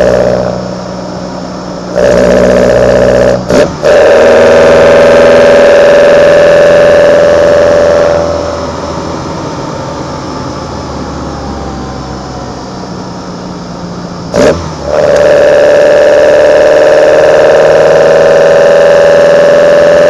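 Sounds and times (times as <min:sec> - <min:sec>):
car engine intake roar: 0:00.0 - 0:20.0.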